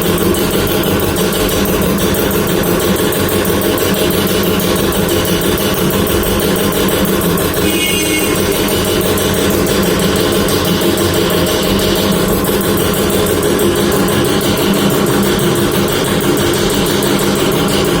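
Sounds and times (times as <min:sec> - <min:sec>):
air compressor running: 0:00.0 - 0:18.0.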